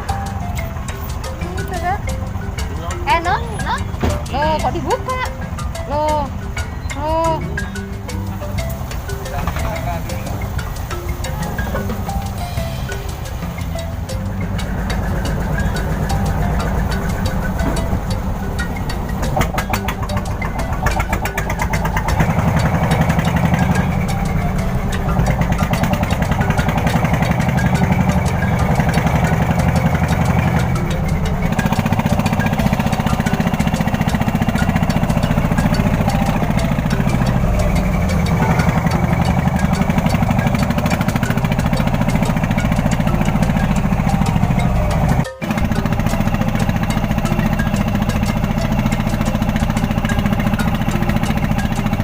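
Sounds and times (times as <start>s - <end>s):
boat engine chugging: 0.0s - 52.0s.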